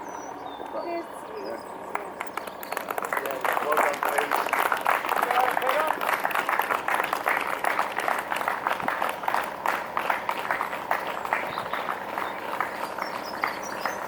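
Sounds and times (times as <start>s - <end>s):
crowd applauding: 1.9s - 14.0s.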